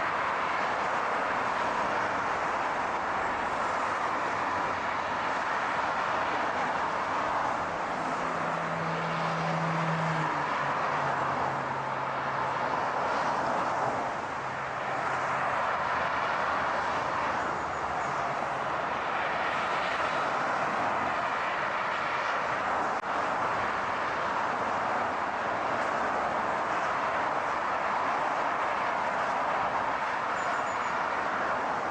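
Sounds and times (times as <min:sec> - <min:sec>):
car road and engine noise: 0:00.0 - 0:31.9.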